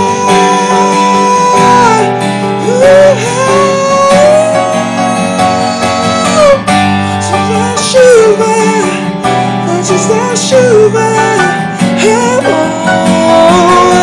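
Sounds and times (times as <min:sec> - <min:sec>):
acoustic guitar: 0:00.0 - 0:14.0
man singing into a microphone: 0:00.0 - 0:14.0.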